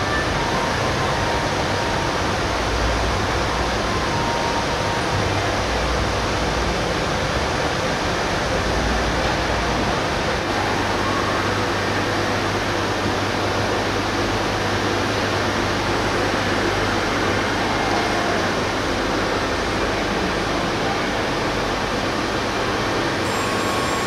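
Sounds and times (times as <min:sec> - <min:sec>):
cnc machine hiss and hum: 0:00.0 - 0:24.0.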